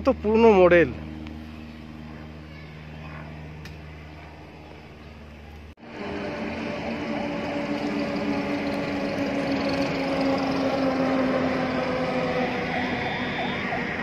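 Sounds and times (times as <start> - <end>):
heavy vehicles engine drone: 0.0 - 14.0.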